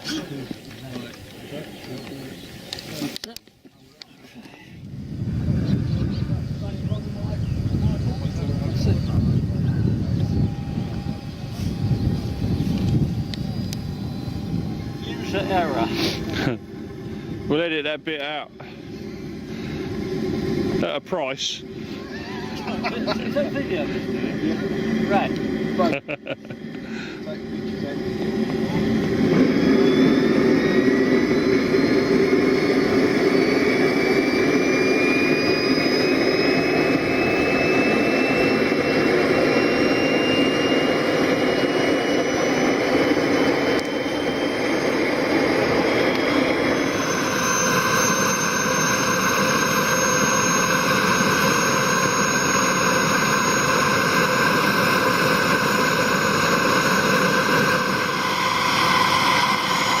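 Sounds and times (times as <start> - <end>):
jet engine whine: 0.0 - 60.0.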